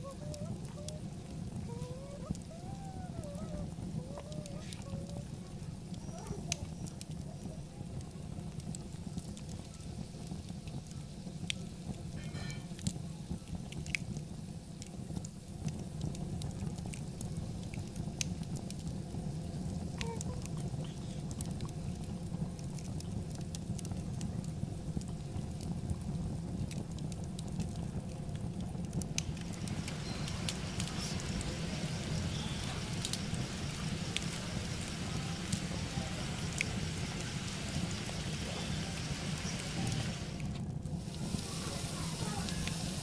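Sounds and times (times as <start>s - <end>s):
chicken frying in a pan: 0.0s - 43.0s
fire crackles and pops: 0.0s - 43.0s
low steady rumble: 0.0s - 43.0s.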